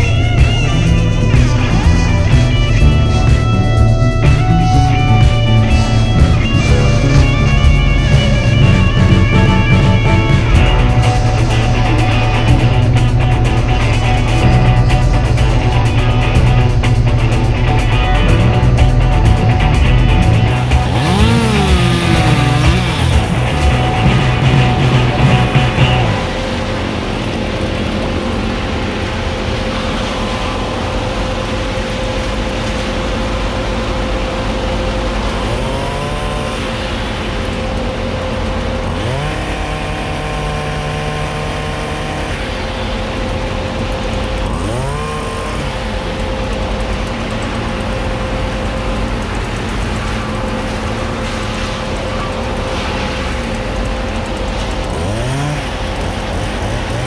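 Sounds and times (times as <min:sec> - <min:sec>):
engine running and revving: 0:00.0 - 0:57.0.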